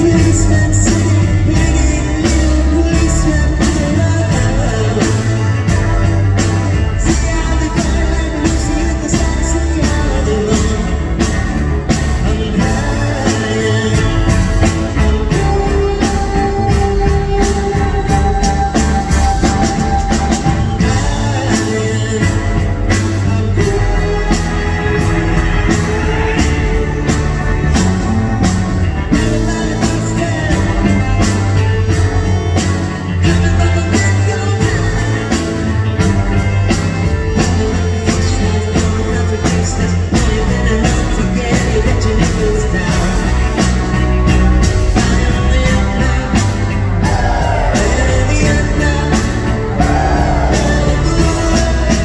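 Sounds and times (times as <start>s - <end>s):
person singing: 0.0s - 52.0s
rock band playing: 0.0s - 52.0s.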